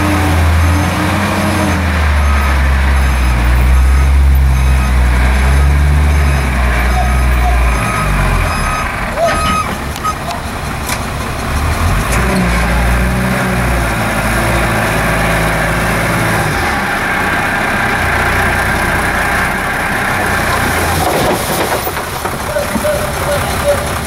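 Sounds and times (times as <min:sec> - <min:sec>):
truck engine under load: 0:00.0 - 0:24.0.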